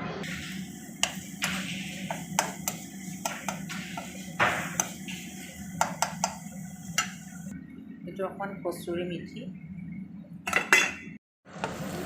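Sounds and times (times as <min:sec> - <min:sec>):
low hum: 0:00.0 - 0:11.1.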